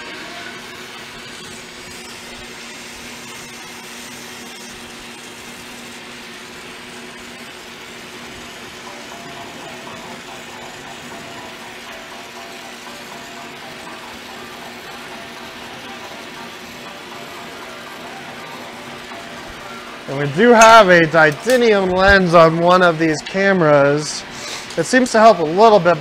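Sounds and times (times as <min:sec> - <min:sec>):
burner flame hissing: 0:00.0 - 0:26.0
lathe low hum: 0:00.0 - 0:26.0.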